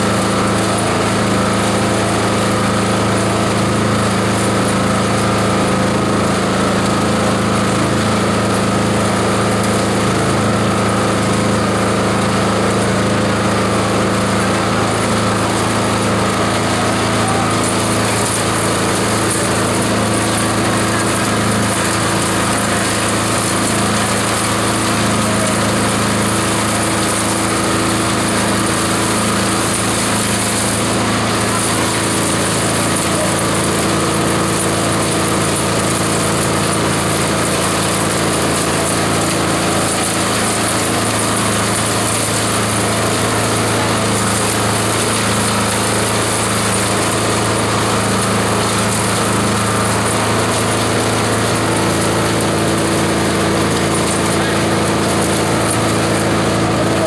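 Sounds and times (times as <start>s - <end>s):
material being shredded: 0.0s - 57.0s
shredder motor hum: 0.0s - 57.0s.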